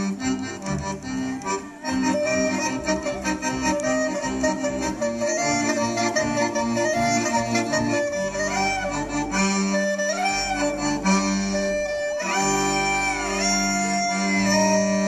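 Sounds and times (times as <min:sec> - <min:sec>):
accordion: 0:00.0 - 0:15.0
clarinet: 0:00.0 - 0:15.0
sustained bass notes: 0:00.0 - 0:15.0.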